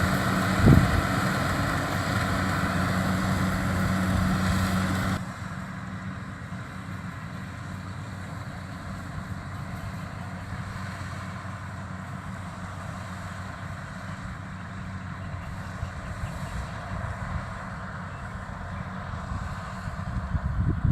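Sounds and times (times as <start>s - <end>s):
combine harvester drone: 0.0s - 20.9s.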